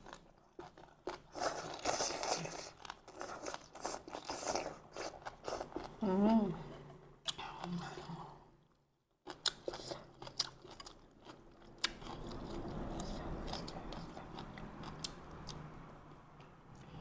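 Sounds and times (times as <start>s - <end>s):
person chewing and eating: 0.0s - 8.3s, 9.2s - 15.7s.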